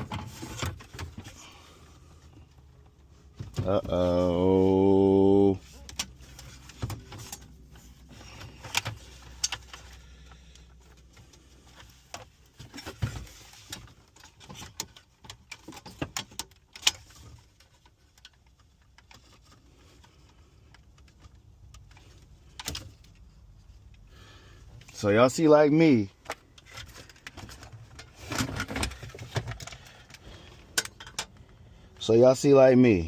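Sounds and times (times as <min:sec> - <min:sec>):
hands handling plastic parts: 0:05.6 - 0:32.0.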